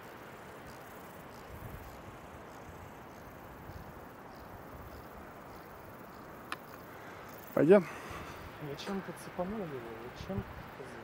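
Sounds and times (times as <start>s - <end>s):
insects chirping: 0.0s - 11.0s
outdoor background hiss: 0.0s - 11.0s.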